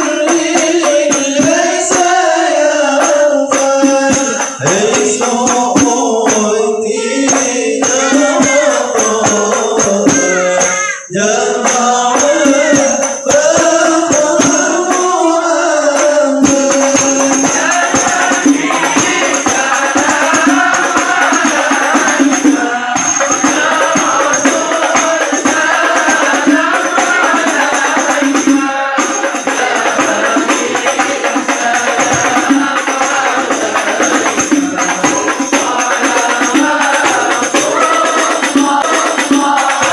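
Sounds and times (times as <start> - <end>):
hand percussion: 0.0 - 39.9
voices chanting together: 0.0 - 39.9.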